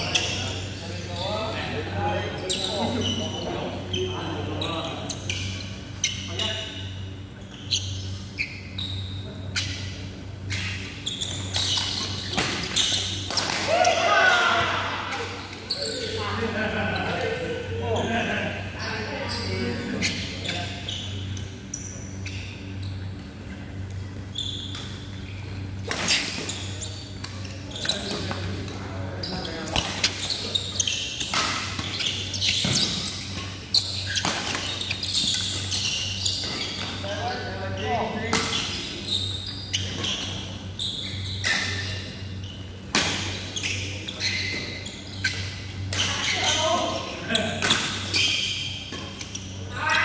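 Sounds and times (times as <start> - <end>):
low hum in hall: 0.0 - 50.0
sneakers squeaking on court floor: 0.0 - 50.0.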